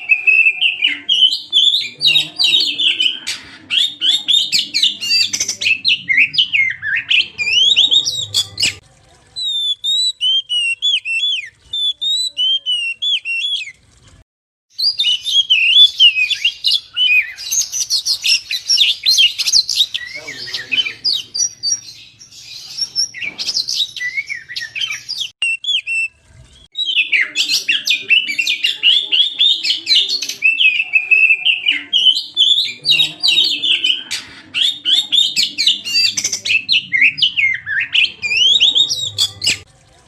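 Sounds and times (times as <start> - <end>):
bird singing whistles and chatter: 0.0 - 8.8, 9.4 - 13.8, 14.8 - 39.6.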